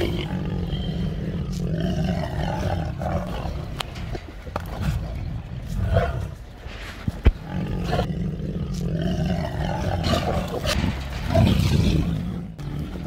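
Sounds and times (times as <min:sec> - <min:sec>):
tigers growling: 0:00.0 - 0:13.0.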